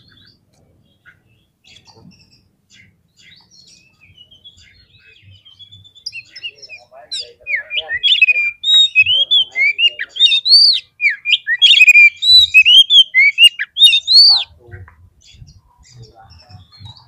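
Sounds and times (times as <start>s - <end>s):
bird singing whistled notes: 0.0s - 14.5s.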